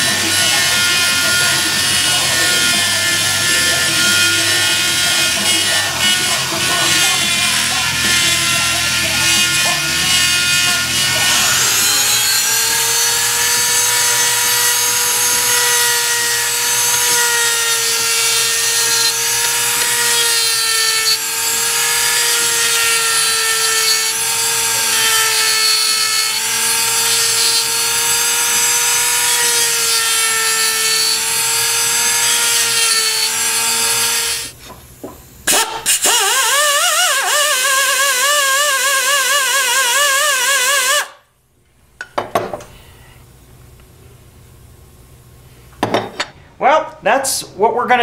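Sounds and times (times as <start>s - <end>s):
rotary tool grinding metal: 0.0s - 34.6s, 35.5s - 41.2s.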